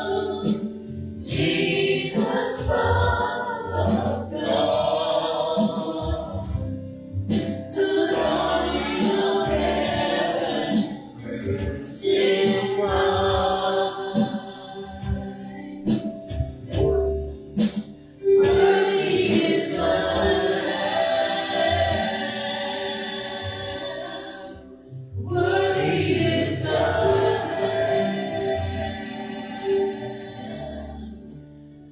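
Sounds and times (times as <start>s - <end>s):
drum and cymbal strokes: 0.0s - 23.2s, 25.4s - 28.9s, 29.6s - 30.0s
bass: 0.0s - 31.9s
congregation singing worship song: 0.0s - 31.9s.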